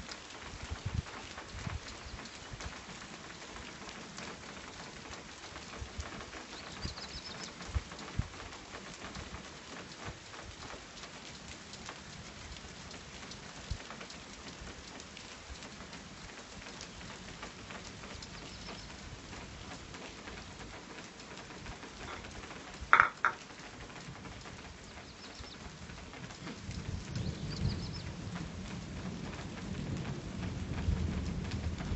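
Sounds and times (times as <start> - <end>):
light rain falling: 0.0 - 31.9.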